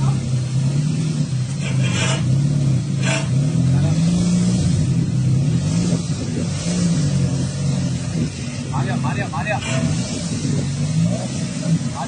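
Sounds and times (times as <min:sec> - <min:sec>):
van engine running at low revs: 0:00.0 - 0:12.0.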